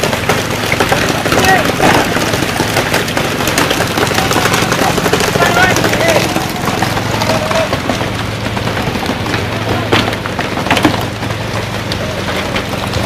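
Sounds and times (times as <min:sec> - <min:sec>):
boat engine hum: 0:00.0 - 0:13.0.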